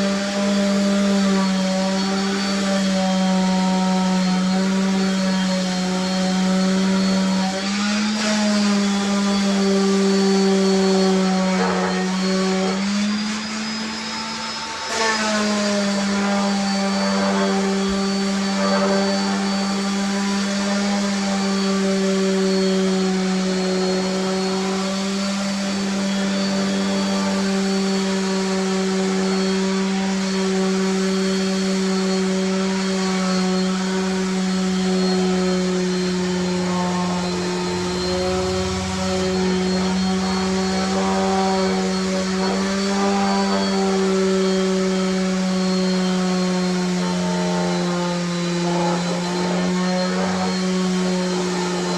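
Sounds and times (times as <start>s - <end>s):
electric motor humming: 0.1s - 51.9s.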